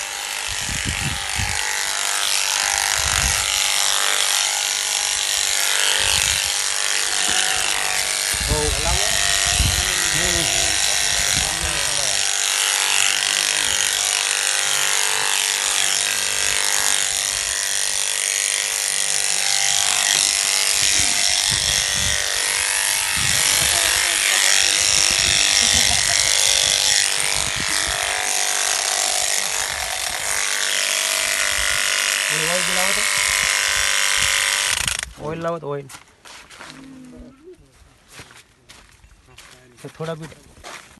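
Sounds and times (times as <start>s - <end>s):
electric shears buzzing: 0.0s - 35.4s.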